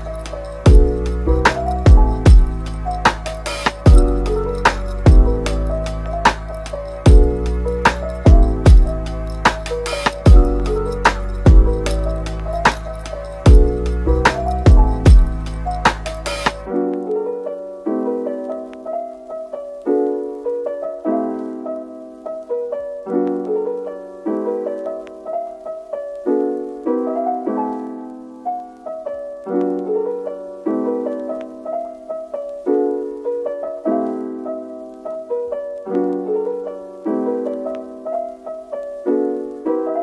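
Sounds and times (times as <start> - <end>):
piano chords: 0.0 - 40.0.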